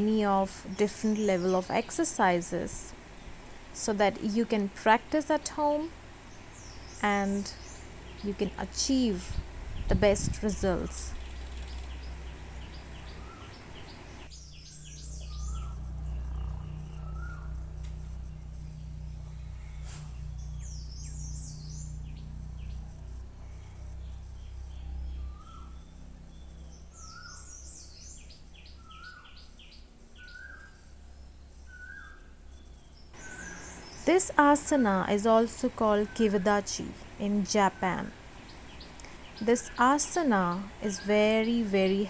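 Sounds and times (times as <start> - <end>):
background hiss: 0.0 - 42.0
low steady hum: 0.0 - 42.0
small birds chirping: 0.0 - 42.0.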